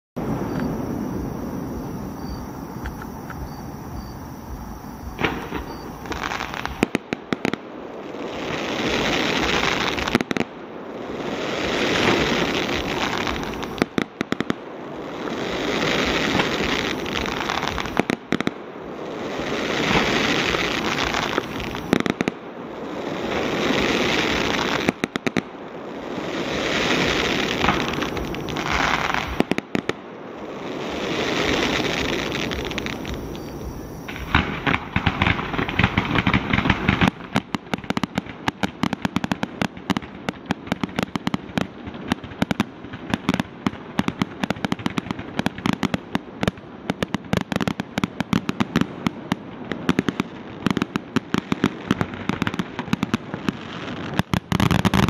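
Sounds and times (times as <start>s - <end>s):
fireworks bangs: 0.2s - 55.0s
fireworks crackling: 0.2s - 55.0s.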